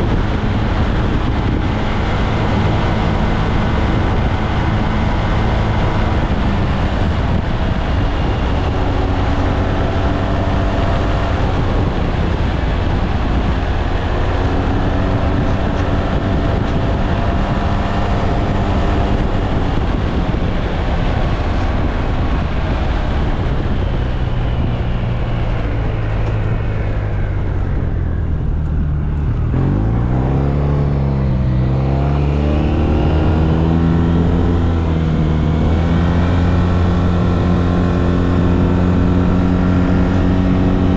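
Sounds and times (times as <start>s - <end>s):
wind rushing: 0.0s - 40.9s.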